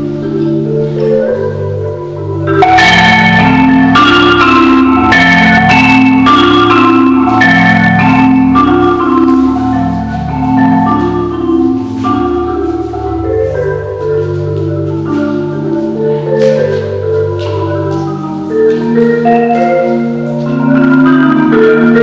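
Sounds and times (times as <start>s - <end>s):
marimba playing: 0.0s - 22.0s.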